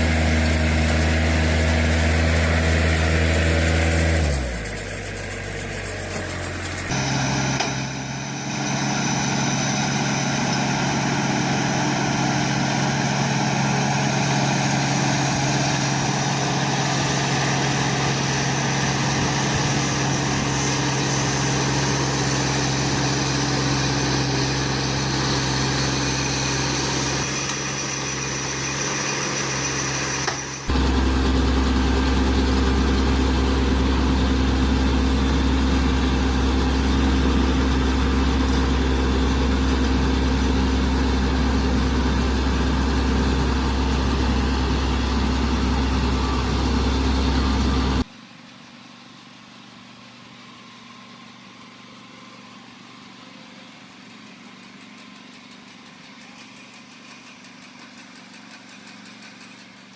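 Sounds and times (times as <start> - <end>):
tractor engine running: 0.0 - 50.1, 52.5 - 59.9
deeper engine: 0.0 - 59.9.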